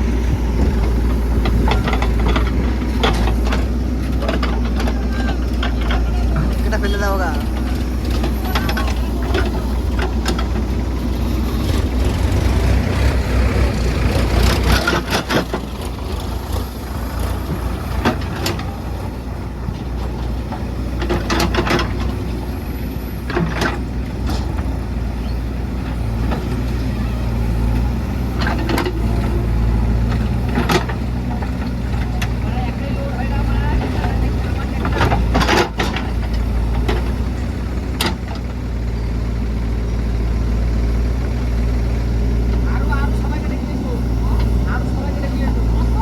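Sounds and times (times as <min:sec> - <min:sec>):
backhoe diesel engine running: 0:00.0 - 0:46.0.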